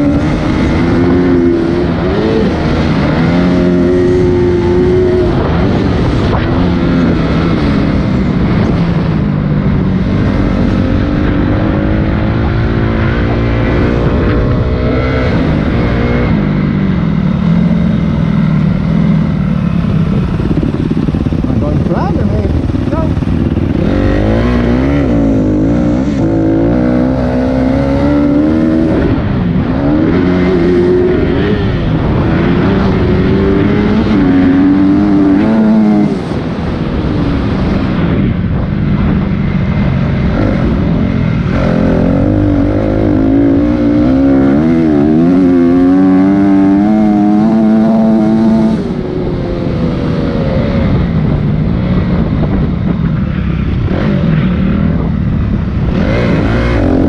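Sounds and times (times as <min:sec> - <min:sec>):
dirt bike engine revving: 0:00.0 - 0:37.5, 0:39.5 - 0:49.4, 0:55.8 - 0:57.0.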